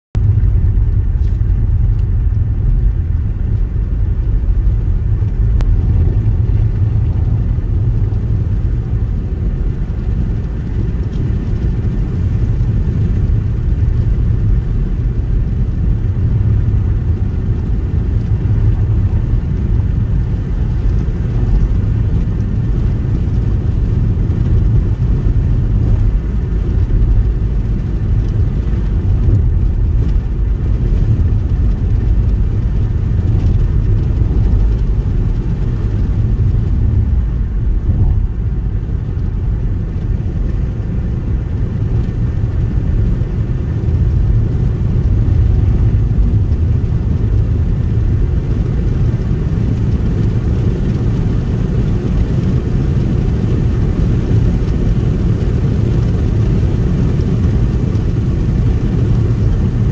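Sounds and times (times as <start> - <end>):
car cabin road rumble: 0.2 - 59.9.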